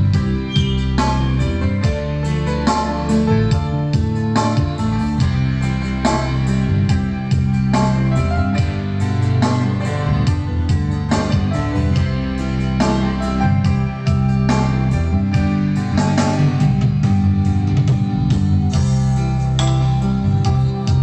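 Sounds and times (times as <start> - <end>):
sustained bass notes: 0.0 - 21.0.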